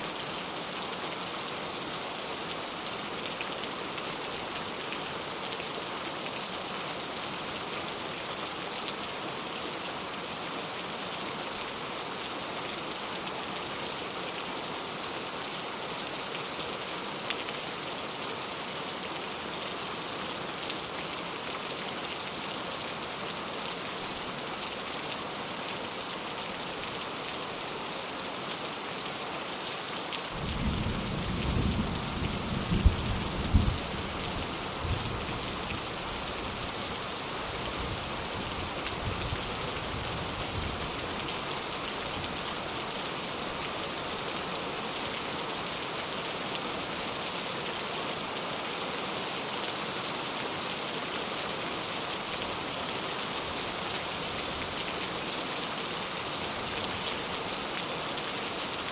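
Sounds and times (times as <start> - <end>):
steady rain pattering: 0.0 - 58.9.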